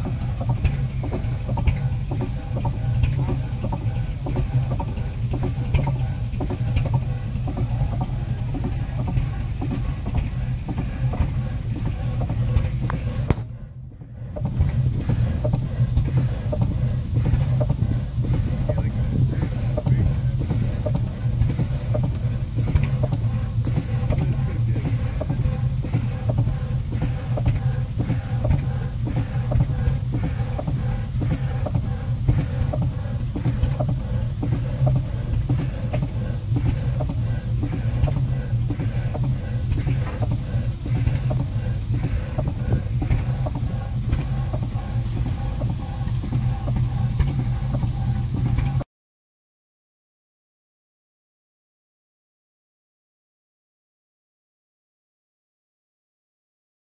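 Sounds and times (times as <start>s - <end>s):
steady low hum: 0.0s - 48.8s
steam engine beating: 0.0s - 48.8s.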